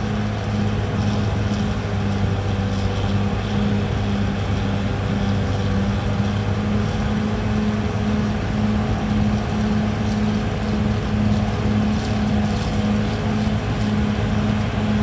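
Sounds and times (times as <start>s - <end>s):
bulldozer diesel engine humming: 0.0s - 15.0s
higher pulsing hum: 0.0s - 15.0s.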